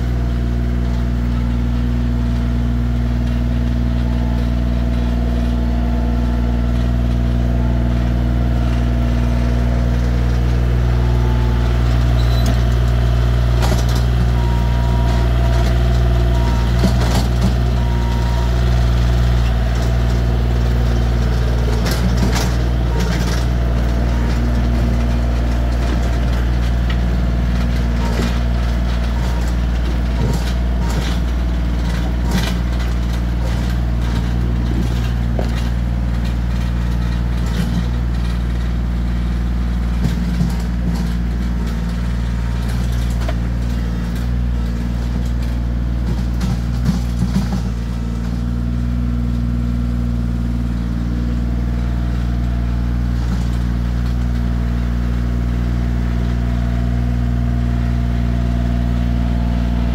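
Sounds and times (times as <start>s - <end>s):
tractor diesel engine under load: 0.0s - 59.9s
knocks and clatters of implement: 0.7s - 59.9s.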